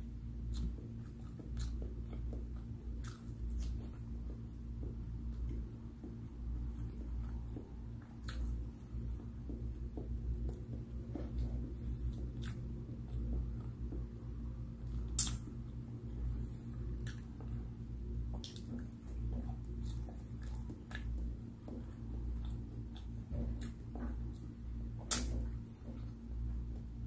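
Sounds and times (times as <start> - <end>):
low hum: 0.0 - 27.0
person chewing: 0.4 - 27.0.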